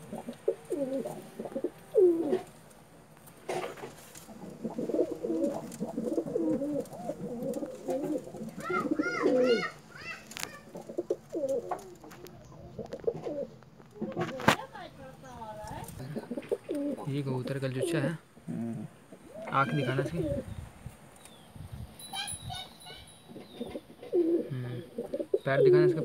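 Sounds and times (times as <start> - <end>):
pigeons cooing: 0.0 - 2.8, 3.4 - 14.4, 15.9 - 20.6, 22.2 - 26.0.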